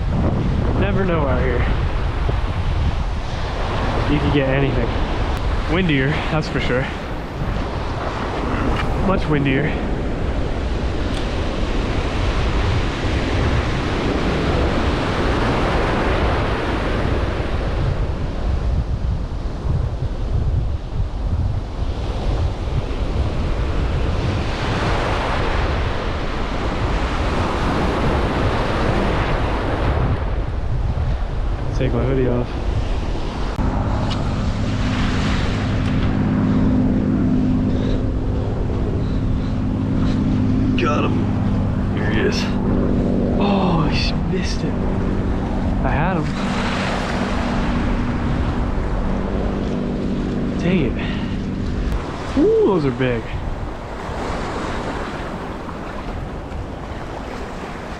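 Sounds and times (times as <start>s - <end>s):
engine running steadily: 0.0s - 57.9s
strong wind buffeting microphone: 0.0s - 57.9s
surf washing: 0.0s - 57.9s.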